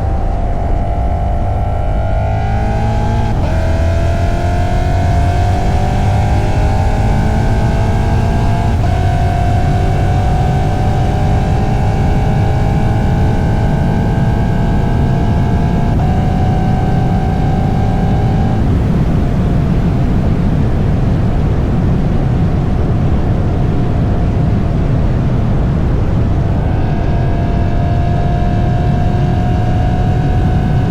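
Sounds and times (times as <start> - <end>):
higher droning tone: 0.0 - 20.1, 25.1 - 30.9
car exhaust rumble: 0.0 - 30.9.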